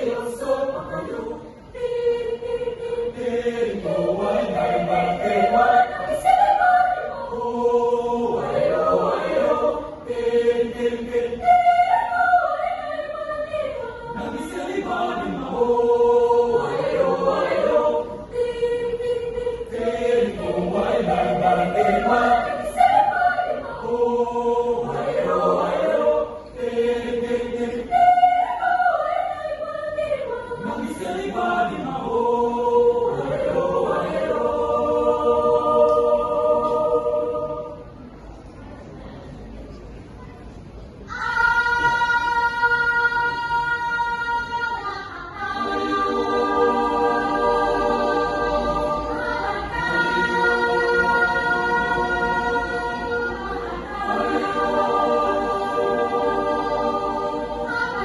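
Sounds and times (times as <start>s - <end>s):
choir singing: 0.0s - 38.4s, 41.1s - 58.0s.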